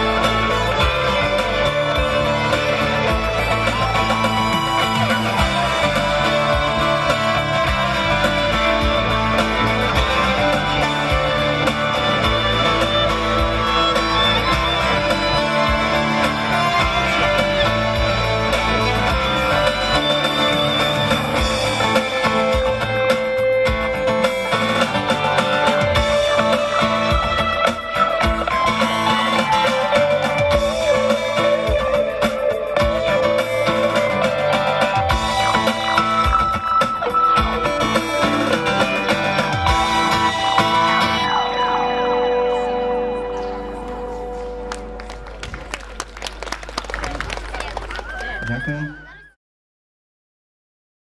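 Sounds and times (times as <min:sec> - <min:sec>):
violin: 0:00.0 - 0:45.8
bass guitar: 0:00.0 - 0:47.8
electric guitar: 0:00.0 - 0:48.7.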